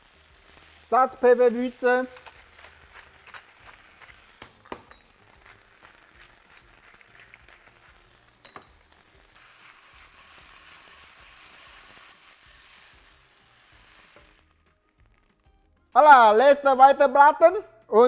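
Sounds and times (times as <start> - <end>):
gnocchi sizzling in oil: 0.0 - 15.6.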